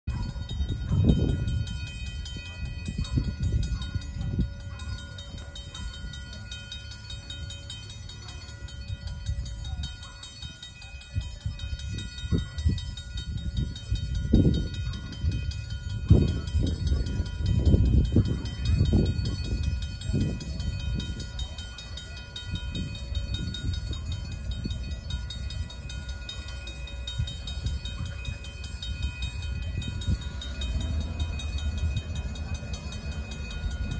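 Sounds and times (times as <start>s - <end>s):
crossing warning bell ringing: 0.1s - 33.9s.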